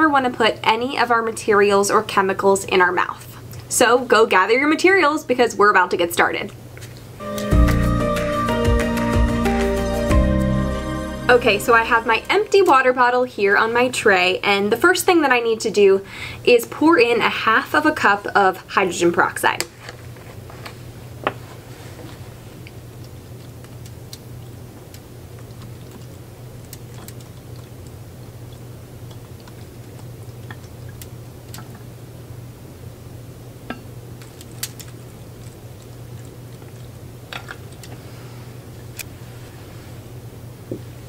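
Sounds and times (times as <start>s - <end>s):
steady low hum: 6.5s - 41.0s.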